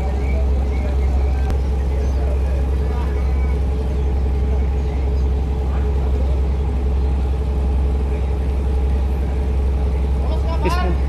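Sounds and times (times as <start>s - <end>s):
boat engine rumbling: 0.0s - 11.0s
constant hum: 0.0s - 11.0s.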